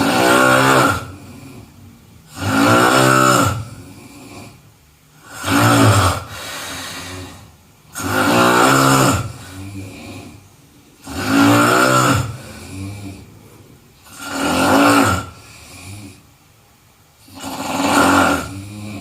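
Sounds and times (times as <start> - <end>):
person snoring: 0.0 - 16.3, 17.2 - 19.0
quiet breaths: 0.8 - 2.8, 3.4 - 8.2, 9.2 - 19.0.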